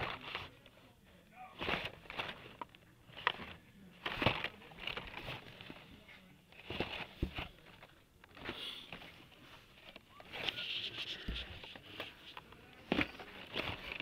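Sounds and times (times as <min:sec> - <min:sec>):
cardboard rustling: 0:00.0 - 0:00.7, 0:01.6 - 0:14.0
plastic clacks: 0:01.6 - 0:05.8, 0:06.5 - 0:14.0.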